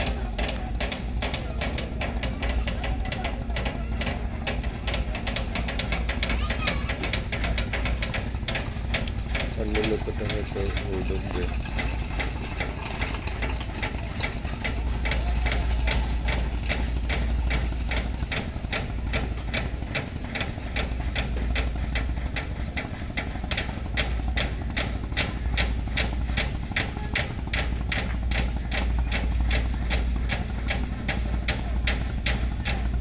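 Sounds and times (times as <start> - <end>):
engine humming: 0.0 - 33.0
sharp mechanical ticking: 0.0 - 33.0.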